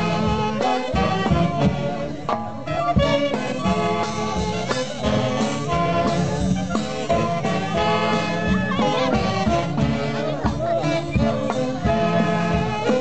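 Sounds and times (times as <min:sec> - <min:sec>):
orchestra playing dance music: 0:00.0 - 0:13.0.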